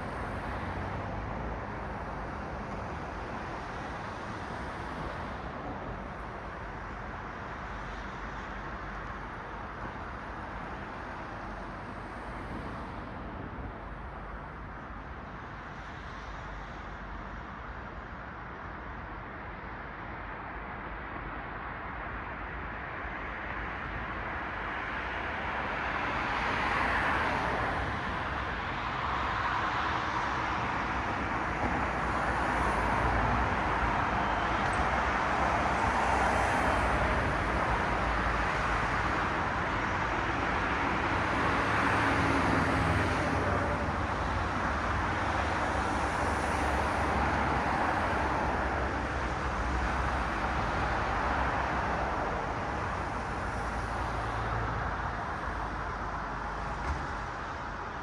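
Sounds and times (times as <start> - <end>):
cars passing by: 0.0 - 17.5, 23.0 - 58.0
steady traffic hum: 0.0 - 58.0.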